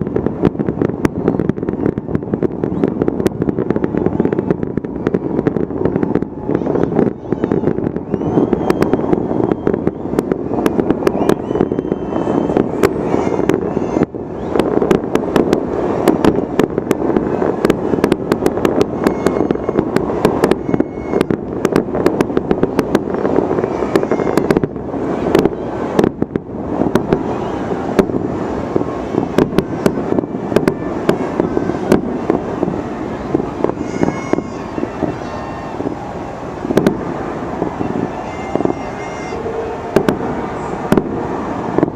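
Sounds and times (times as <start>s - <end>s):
fireworks crackles and bangs: 0.0s - 41.9s
firework whistles: 2.6s - 41.9s.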